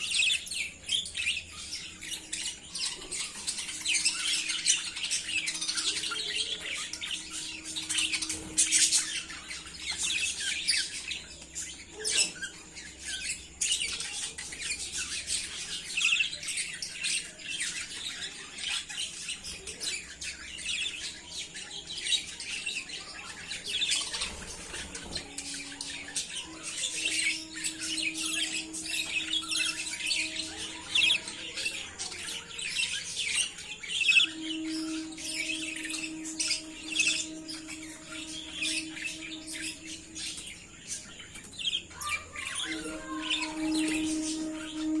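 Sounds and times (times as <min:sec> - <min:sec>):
budgerigars chattering and chirping: 0:00.0 - 0:45.0.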